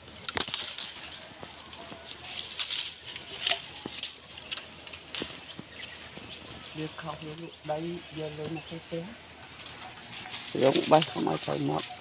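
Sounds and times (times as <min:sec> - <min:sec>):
dry leaves and twigs rustling: 0:00.0 - 0:12.0
twigs snapping: 0:00.0 - 0:12.0.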